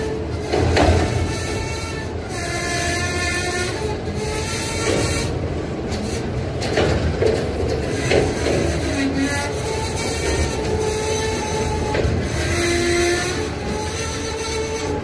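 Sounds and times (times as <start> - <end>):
train rolling on track: 0.0 - 15.0.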